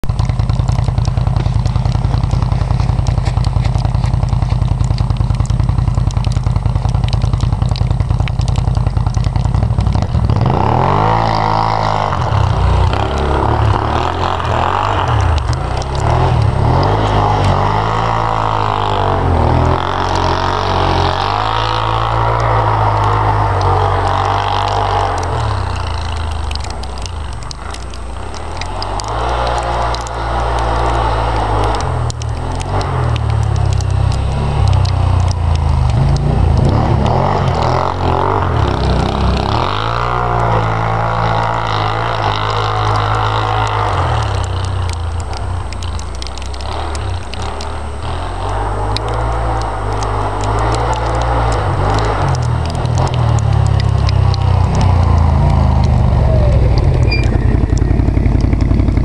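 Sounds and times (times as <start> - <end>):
snowmobile engine idling and revving: 0.0 - 59.0.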